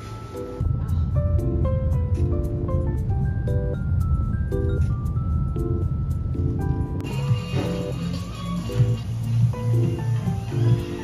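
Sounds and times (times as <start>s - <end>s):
light melody over bass: 0.0s - 11.0s.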